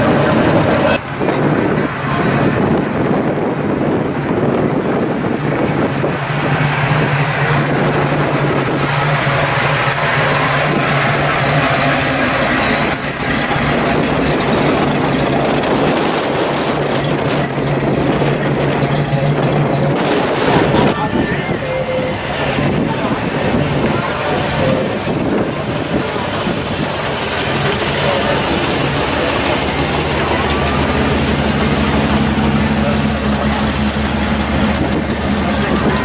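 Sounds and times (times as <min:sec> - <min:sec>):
car engine passing slowly: 0:00.0 - 0:21.0, 0:21.6 - 0:36.0.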